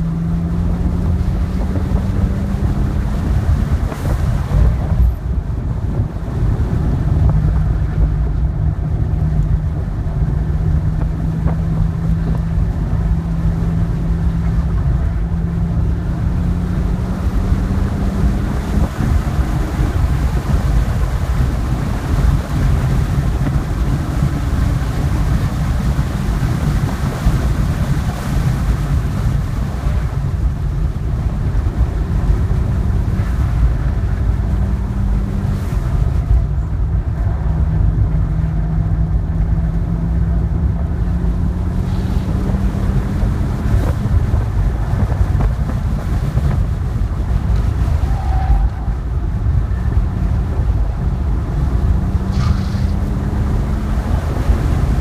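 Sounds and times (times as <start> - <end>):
car engine running: 0.0 - 48.1
wind and road noise rumble: 0.0 - 55.0.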